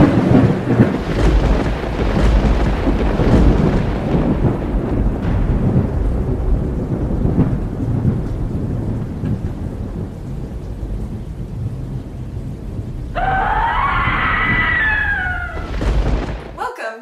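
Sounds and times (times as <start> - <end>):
steady rain: 0.0 - 16.6
thunder rumbling: 0.0 - 16.6.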